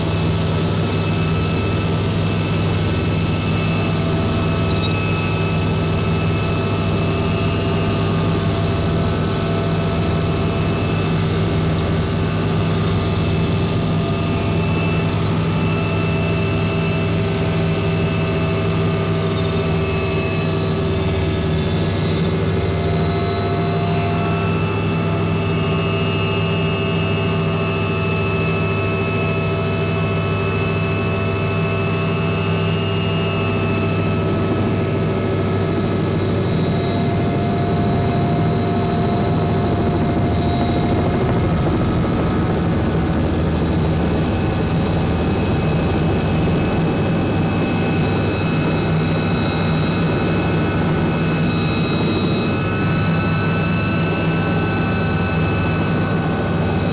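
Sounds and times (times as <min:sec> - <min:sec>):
helicopter engine and rotor drone: 0:00.0 - 0:56.9
high turbine whine: 0:00.0 - 0:56.9.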